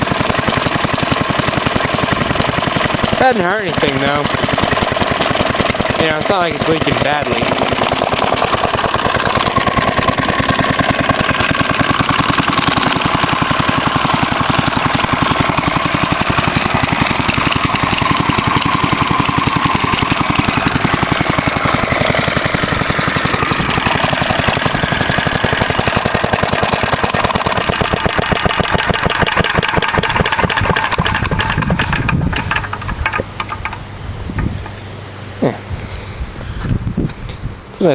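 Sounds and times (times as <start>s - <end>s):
single-cylinder engine firing beats: 0.0s - 34.8s.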